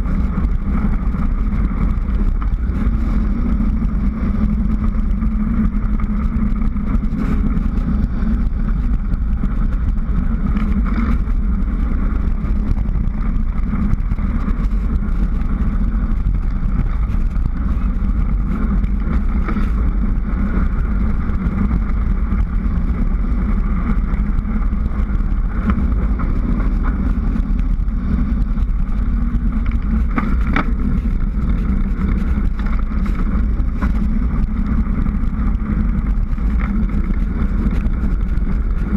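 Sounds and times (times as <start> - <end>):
wind and road rumble: 0.0 - 38.9.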